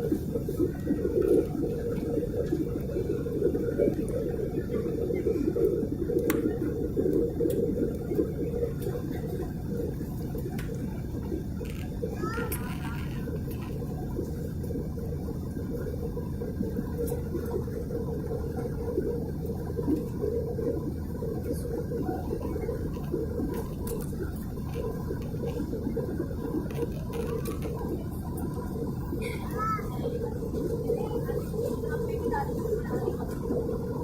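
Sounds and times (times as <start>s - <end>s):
airplane cabin rumble: 0.0s - 34.0s.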